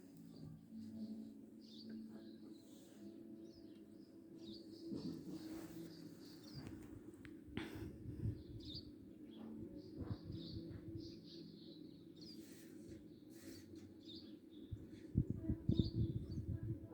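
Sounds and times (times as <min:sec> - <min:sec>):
birds chirping: 0:00.1 - 0:07.3, 0:08.1 - 0:16.6.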